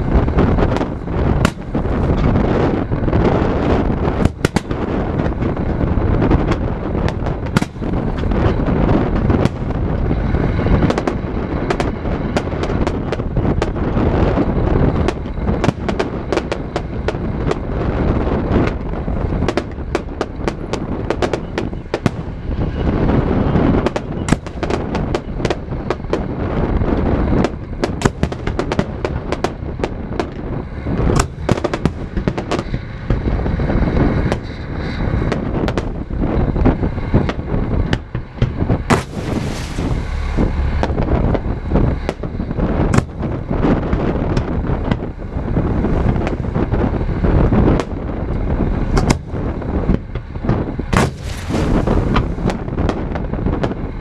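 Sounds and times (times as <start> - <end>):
fireworks bursting bangs: 0.0 - 34.6, 37.2 - 53.9
continuous low rumble: 0.0 - 54.0.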